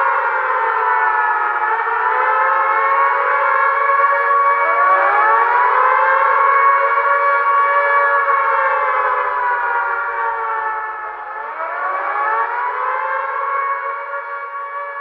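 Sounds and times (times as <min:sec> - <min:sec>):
civil defense siren wailing: 0:00.0 - 0:15.0.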